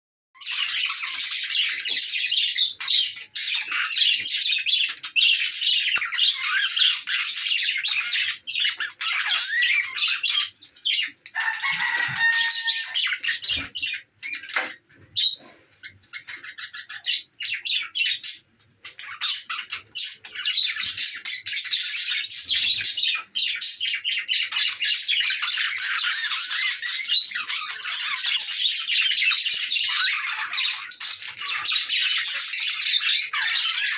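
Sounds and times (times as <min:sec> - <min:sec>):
budgerigars chattering and warbling: 0:00.4 - 0:33.9.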